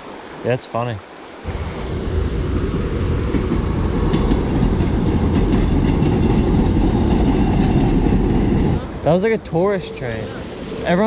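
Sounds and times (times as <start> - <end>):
train rumbling on rails: 1.5 - 11.0.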